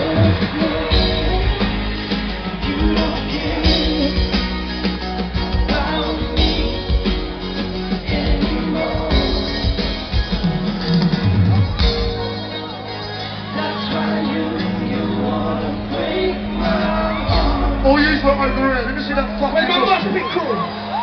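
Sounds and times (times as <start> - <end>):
live band with singing: 0.0 - 21.0.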